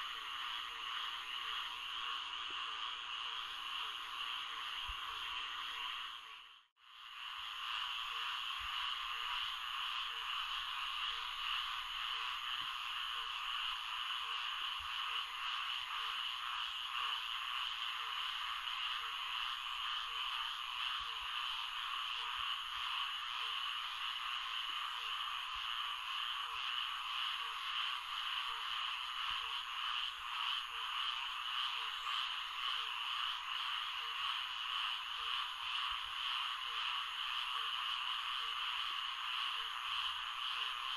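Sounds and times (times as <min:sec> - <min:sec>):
dense chorus of calling frogs: 0:00.0 - 0:40.9
low repeating frog call: 0:00.0 - 0:40.9.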